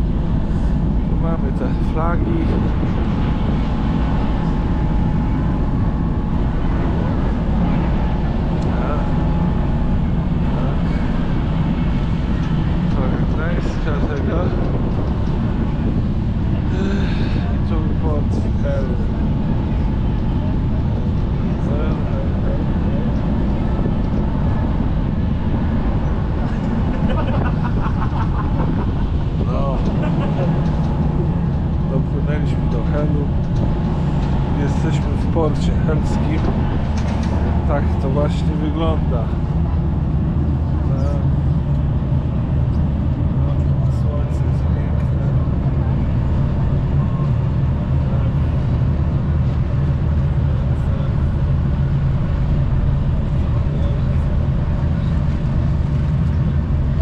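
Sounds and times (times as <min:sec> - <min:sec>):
ship engines rumbling: 0:00.0 - 0:57.0
wind on open deck: 0:00.0 - 0:57.0.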